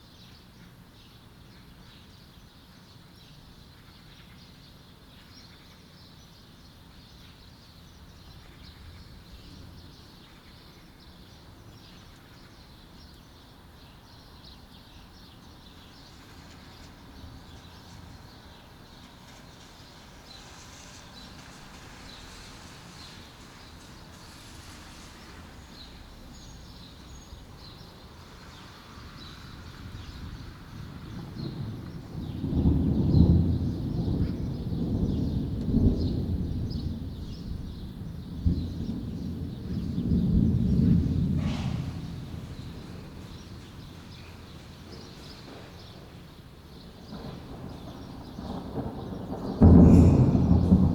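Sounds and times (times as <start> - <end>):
small birds chirping: 0.2 - 50.9.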